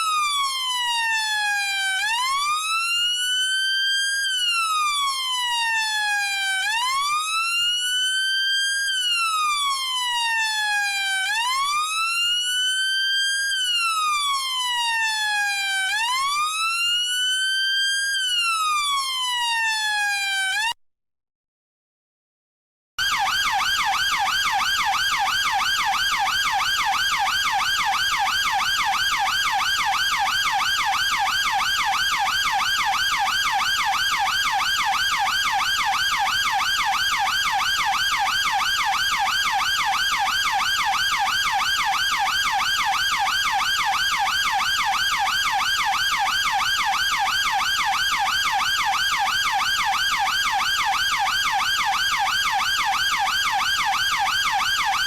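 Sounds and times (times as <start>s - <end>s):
police siren yelping: 0.0s - 20.7s, 23.0s - 55.0s.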